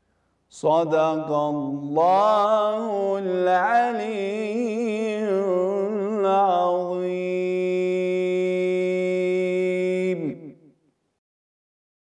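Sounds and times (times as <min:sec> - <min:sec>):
man chanting: 0:00.5 - 0:10.6.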